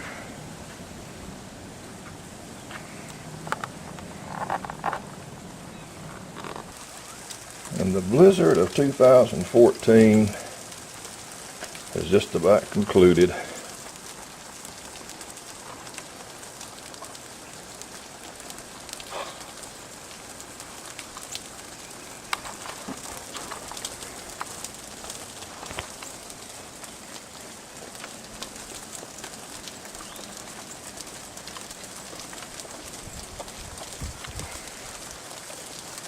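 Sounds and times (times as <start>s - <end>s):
freezing rain pattering on ice: 0.0s - 36.0s.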